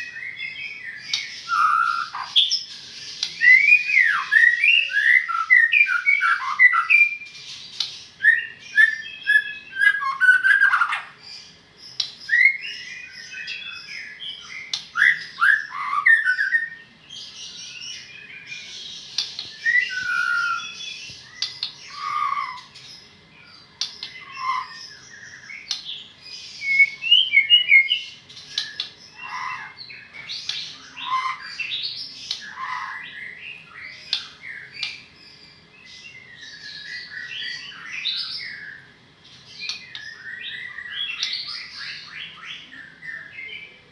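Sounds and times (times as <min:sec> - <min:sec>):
songbird singing varied song: 0:00.0 - 0:43.9.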